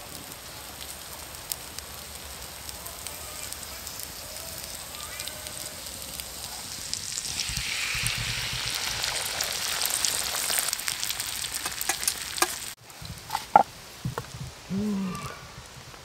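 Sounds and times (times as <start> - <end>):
egg sizzling in frying pan: 0.0 - 13.7.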